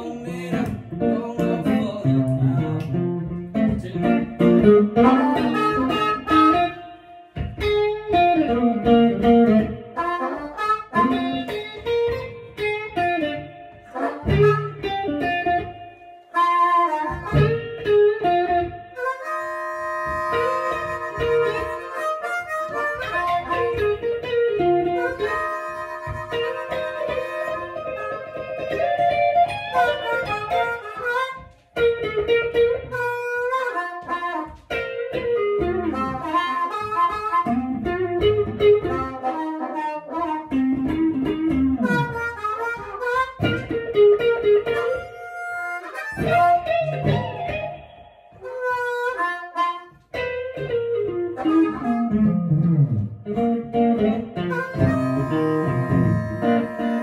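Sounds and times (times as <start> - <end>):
electric guitar blues: 0.0 - 57.0
harmonica bent notes: 0.0 - 57.0.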